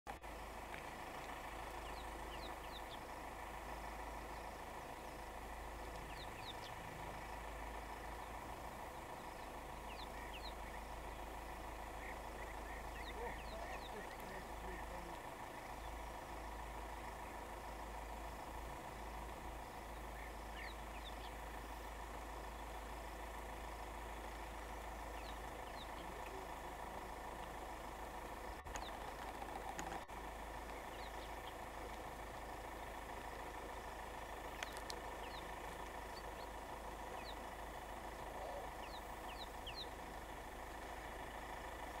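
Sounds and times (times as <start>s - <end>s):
constant low rumble: 0.1s - 42.0s
faint bird chirps: 1.2s - 31.9s, 32.7s - 40.2s.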